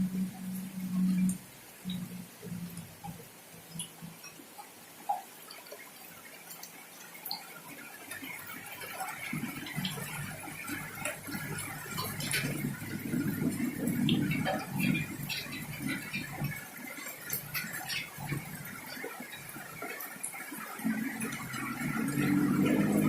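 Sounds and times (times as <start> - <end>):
dense rain patter: 0.0 - 23.0
rain drops dripping: 0.0 - 23.0.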